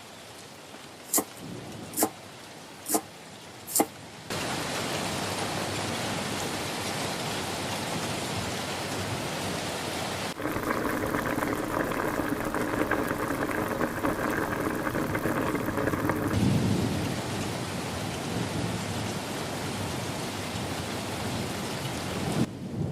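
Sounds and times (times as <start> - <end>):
close rain with distinct drops: 0.0 - 22.9
steady rain falling: 0.0 - 22.9.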